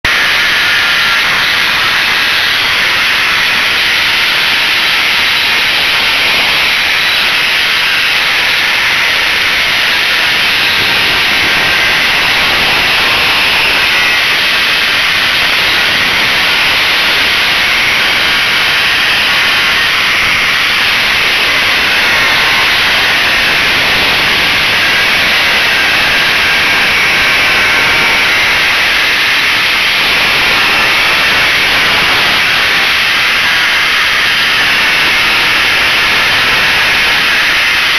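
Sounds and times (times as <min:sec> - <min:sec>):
power tool raking mortar: 0:00.0 - 0:37.9
dust extraction hiss: 0:00.1 - 0:37.9.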